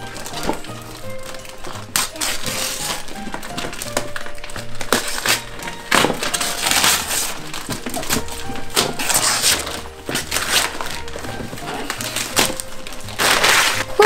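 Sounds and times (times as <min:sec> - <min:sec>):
background music: 0:00.0 - 0:14.0
wrapping paper tearing: 0:00.0 - 0:14.0.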